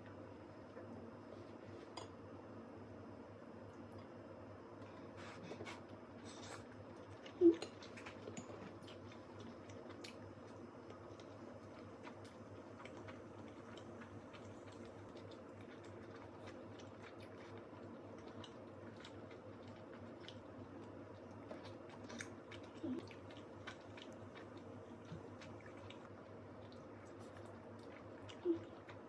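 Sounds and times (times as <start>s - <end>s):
steady low hum: 0.0s - 29.0s
person chewing food: 4.8s - 29.0s.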